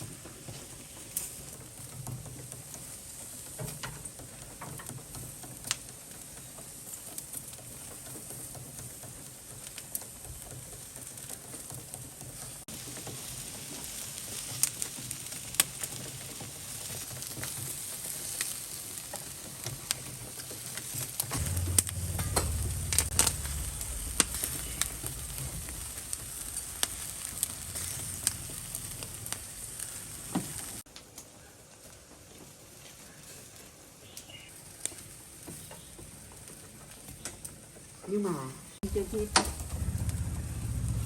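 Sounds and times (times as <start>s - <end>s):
fat popping and crackling: 0.0s - 30.8s, 34.7s - 41.0s
food sizzling on a grill: 0.0s - 41.0s.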